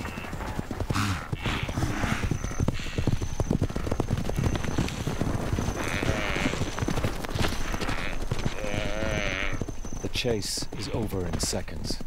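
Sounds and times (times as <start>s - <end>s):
hooves drumming: 0.0s - 12.0s.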